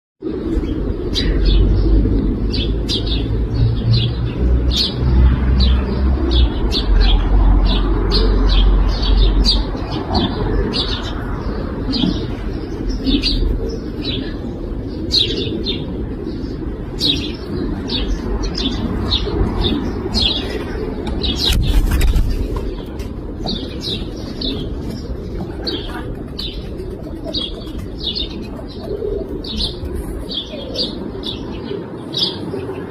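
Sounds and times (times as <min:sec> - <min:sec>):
pigeons cooing: 0:00.2 - 0:32.9.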